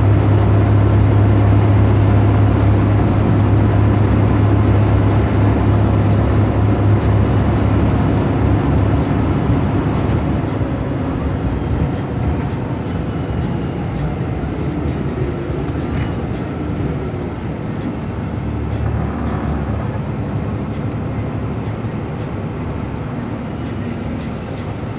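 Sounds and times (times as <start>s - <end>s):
bus diesel engine drone: 0.0s - 24.9s
road noise: 0.0s - 24.9s.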